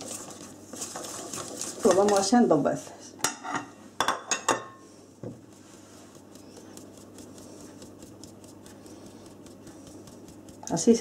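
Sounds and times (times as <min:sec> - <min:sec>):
flour sifting through sieve: 0:00.0 - 0:03.1, 0:04.9 - 0:11.0.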